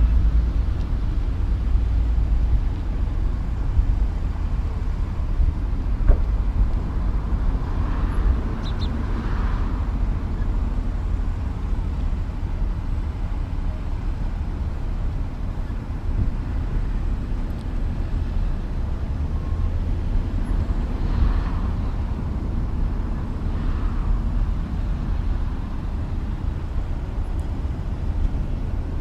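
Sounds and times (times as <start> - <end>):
log trucks rumbling past: 0.0 - 29.0.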